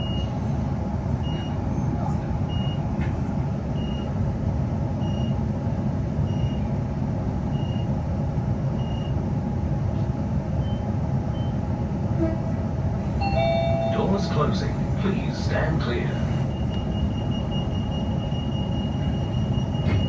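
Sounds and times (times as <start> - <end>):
electric train hum: 0.0 - 20.0.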